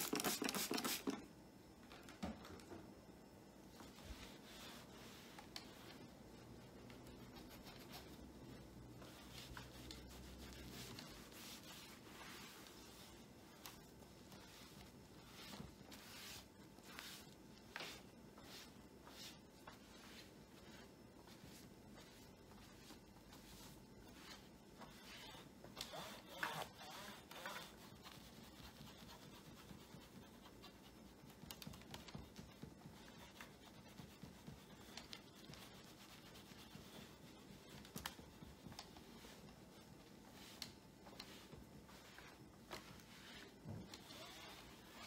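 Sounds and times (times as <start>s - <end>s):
cloth rubbing on monitor: 3.7s - 45.0s.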